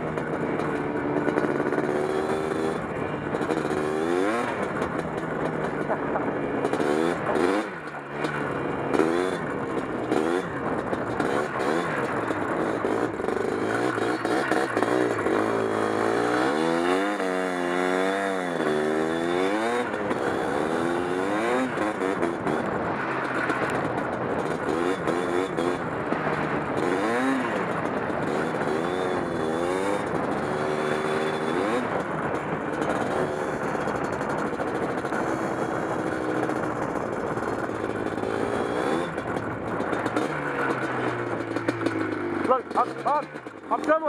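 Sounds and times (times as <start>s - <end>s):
quad bike engine revving: 0.0s - 44.0s.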